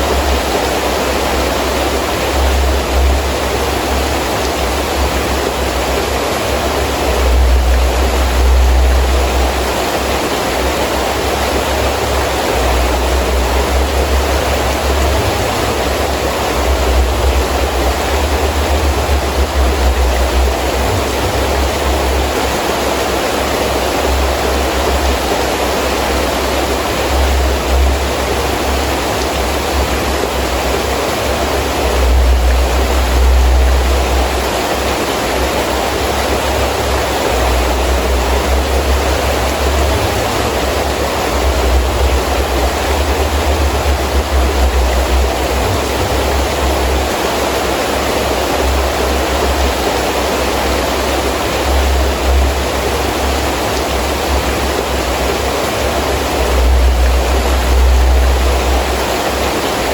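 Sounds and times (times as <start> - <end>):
heavy rain pouring: 0.0 - 59.9
rumble of wind gusts: 0.0 - 59.9.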